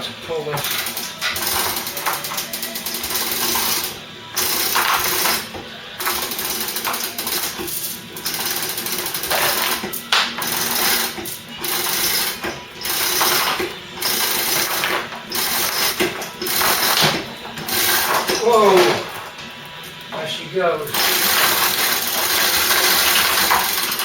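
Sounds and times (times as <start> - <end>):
chain hoist ratchet clattering: 0.6 - 18.9, 20.9 - 24.0.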